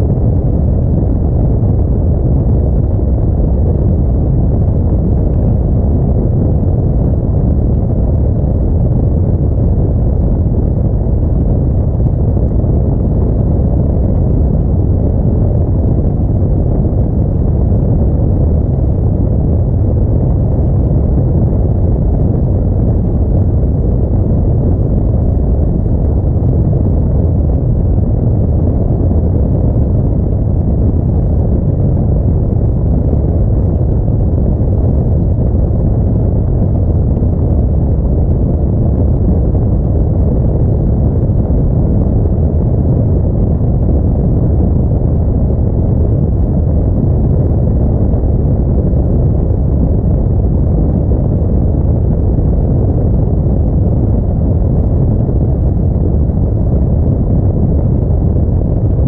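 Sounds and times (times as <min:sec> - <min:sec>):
car driving low rumble: 0:00.0 - 0:59.0.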